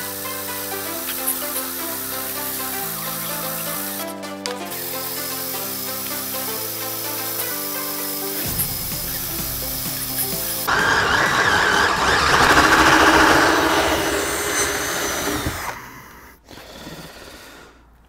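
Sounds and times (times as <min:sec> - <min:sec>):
cordless drill drilling through steel: 0:00.0 - 0:08.8, 0:10.0 - 0:16.4
background music: 0:00.0 - 0:14.7.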